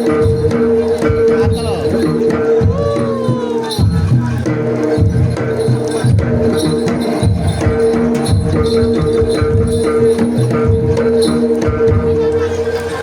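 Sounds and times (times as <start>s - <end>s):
fast drum and percussion: 0.0s - 13.0s.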